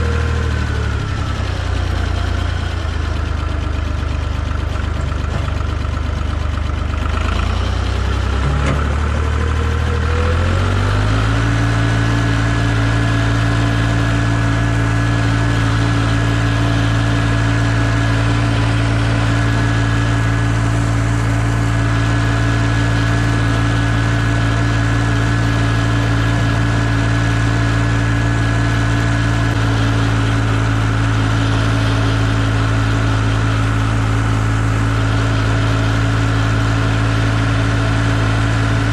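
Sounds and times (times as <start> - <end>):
tractor engine speeding up: 0.0 - 38.9.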